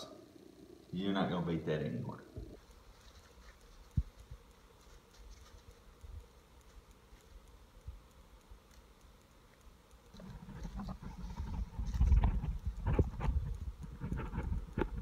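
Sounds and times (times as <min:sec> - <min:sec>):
small ticks: 0:02.3 - 0:15.0.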